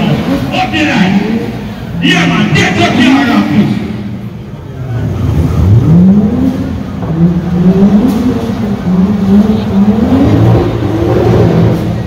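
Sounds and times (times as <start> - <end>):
car engine revving hard: 0.0 - 4.2, 5.0 - 12.0.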